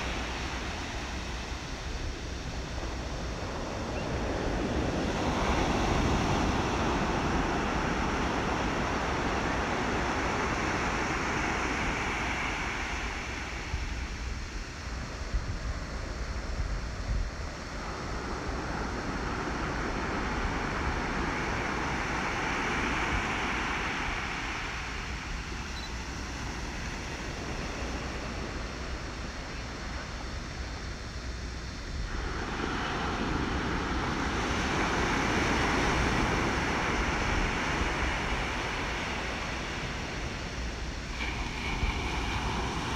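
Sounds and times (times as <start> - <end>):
ocean waves washing: 0.0 - 42.9.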